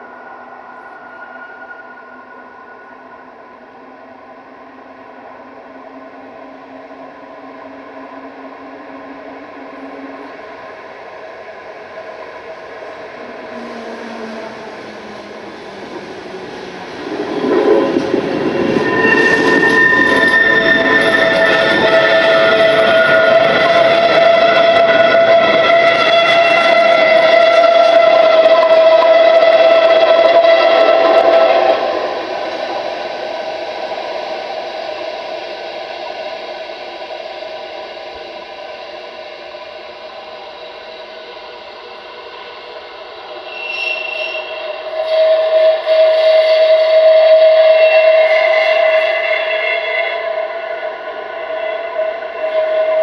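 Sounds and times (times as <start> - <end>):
tram wheels squealing: 0.0 - 3.8, 5.6 - 53.0
tram running noise: 0.0 - 53.0.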